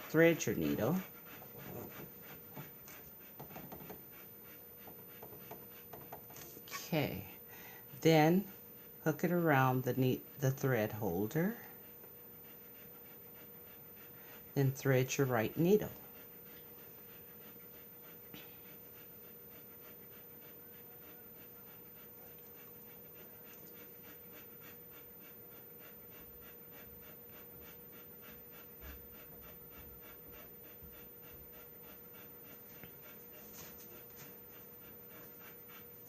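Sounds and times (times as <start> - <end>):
faint steady hum: 0.0 - 36.0
quick rhythmic panting: 0.0 - 36.0.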